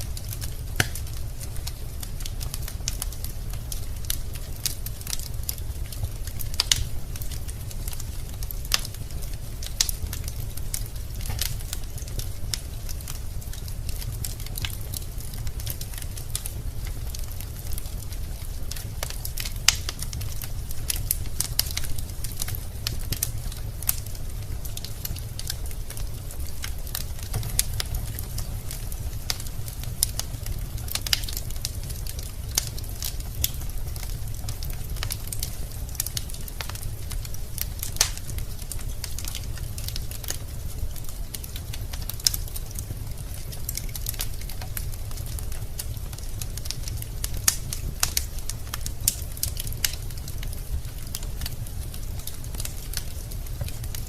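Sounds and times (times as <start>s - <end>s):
burning logs snapping: 0.0s - 54.0s
low rumble of flames: 0.0s - 54.0s.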